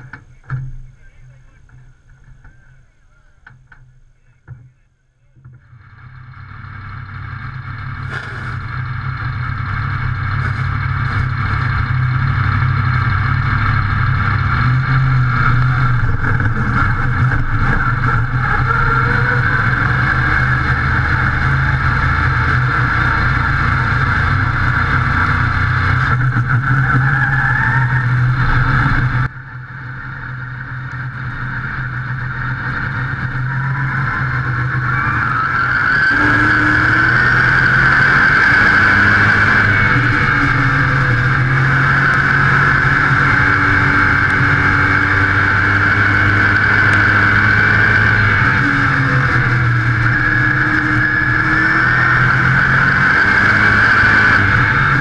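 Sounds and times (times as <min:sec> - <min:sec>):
race car engine accelerating: 0:05.6 - 0:55.0.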